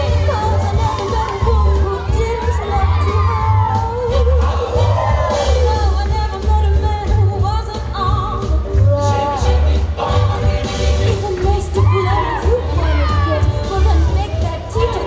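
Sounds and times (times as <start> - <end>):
show tune with singer: 0.0 - 15.0.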